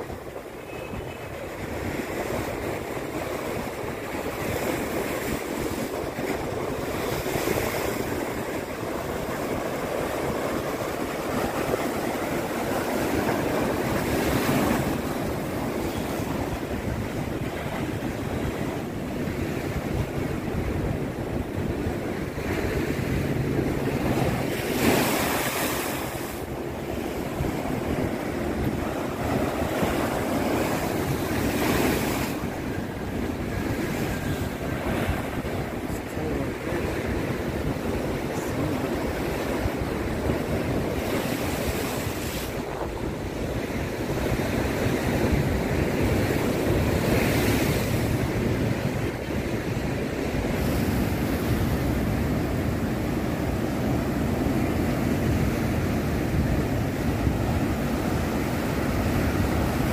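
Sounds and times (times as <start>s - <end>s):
waves crashing on concrete: 0.0s - 59.9s
wind buffeting microphone: 0.0s - 59.9s.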